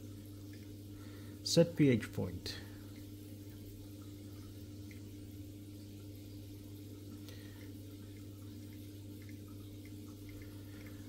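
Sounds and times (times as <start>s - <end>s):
aquarium equipment humming: 0.0s - 11.0s.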